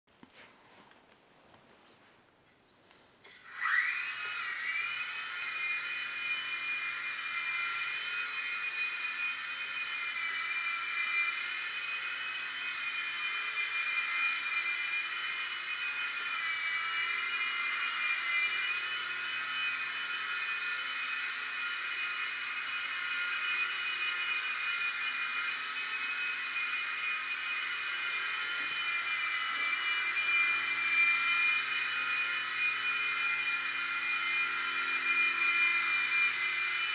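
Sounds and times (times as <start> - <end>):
toy helicopter rotors whining: 3.2 - 36.9.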